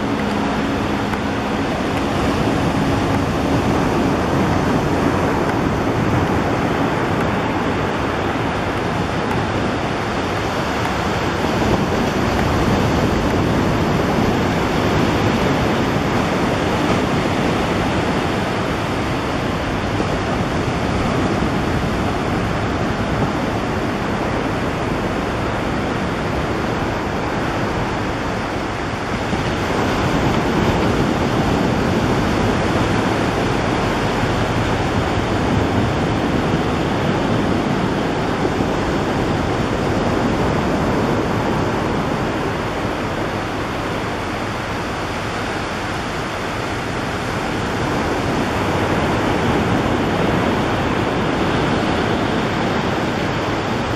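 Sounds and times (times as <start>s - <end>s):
faint aircraft engine hum: 0.0s - 53.9s
wind noise on microphone: 0.0s - 53.9s.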